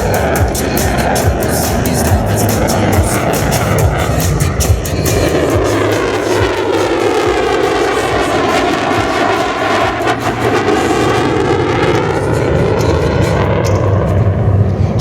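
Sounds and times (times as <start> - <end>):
jet fighter flying past: 0.0 - 15.0.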